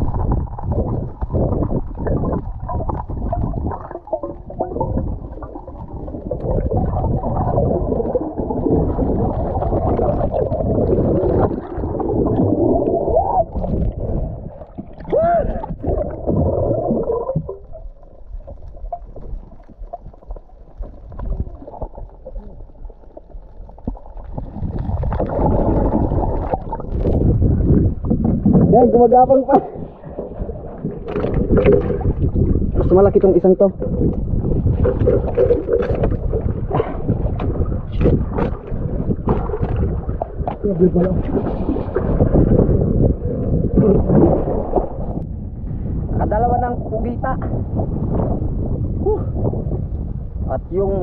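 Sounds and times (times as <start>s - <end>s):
underwater water rushing and bubbling: 0.0s - 51.0s.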